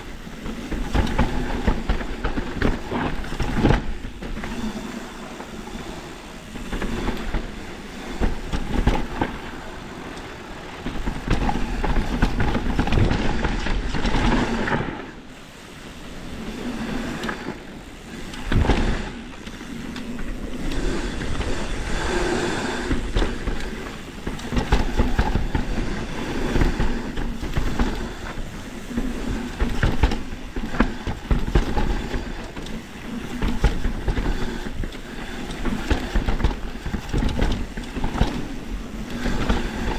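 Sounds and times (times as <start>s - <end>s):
bike tyres rolling over dirt: 0.0s - 39.9s.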